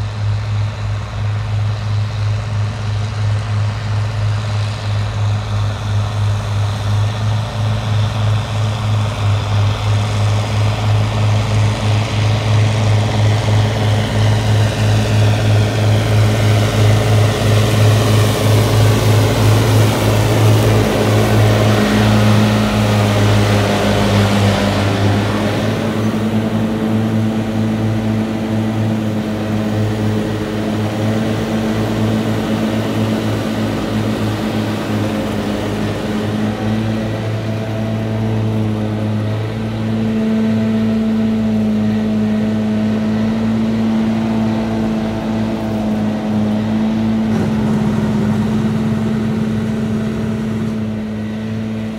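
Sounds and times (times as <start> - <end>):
tractor diesel engine droning: 0.0 - 51.9.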